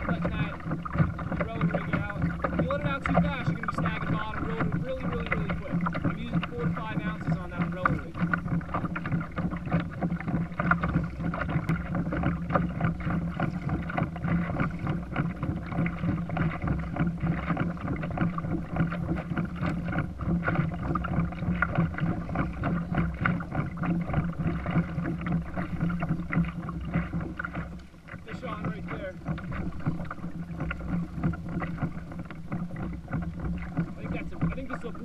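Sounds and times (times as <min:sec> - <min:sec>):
low hum: 0:00.0 - 0:35.0
water splashing against kayak hull: 0:00.0 - 0:35.0.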